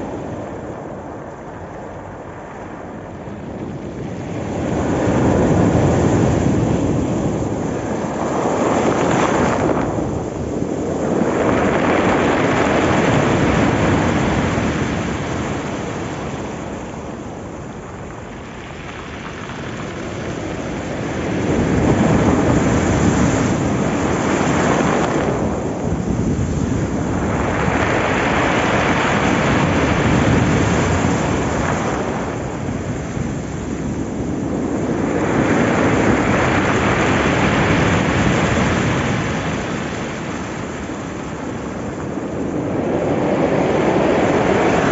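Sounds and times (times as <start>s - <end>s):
waves breaking: 4.0s - 44.9s.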